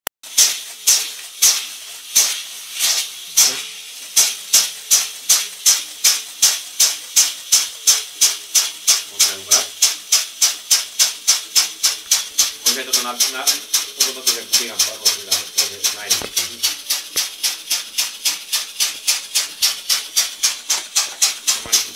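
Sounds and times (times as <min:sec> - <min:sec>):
steam engine chuffing: 0:04.2 - 0:21.9.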